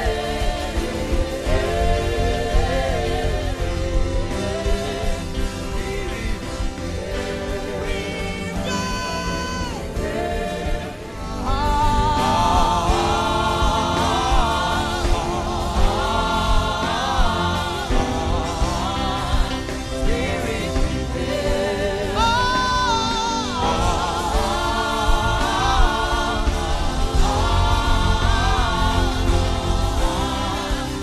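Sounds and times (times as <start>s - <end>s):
low instrumental backing: 0.0s - 31.0s.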